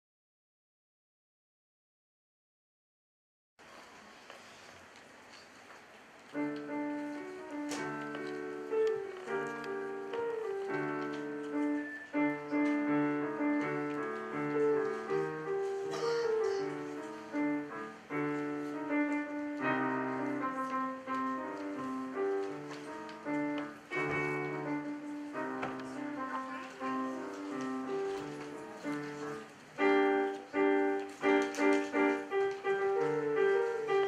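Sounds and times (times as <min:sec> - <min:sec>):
solo piano: 0:06.0 - 0:34.0.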